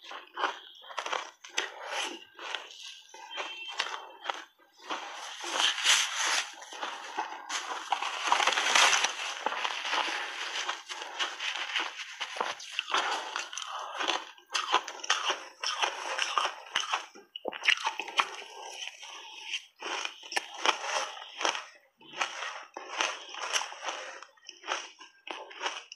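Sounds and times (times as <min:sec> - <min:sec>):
crunching and chewing ice: 0:00.0 - 0:25.9.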